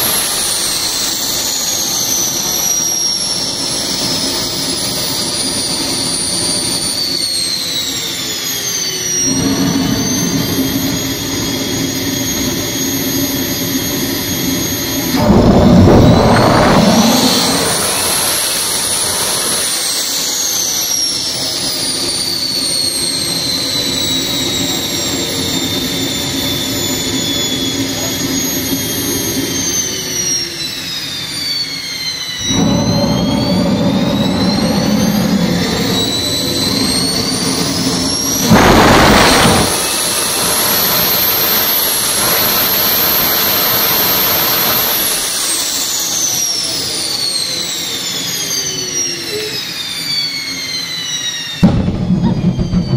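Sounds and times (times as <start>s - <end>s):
deep combustion rumble: 0.0s - 49.8s, 50.6s - 52.9s
loud burst: 0.0s - 52.9s
turbojet turbine whine: 0.0s - 52.9s.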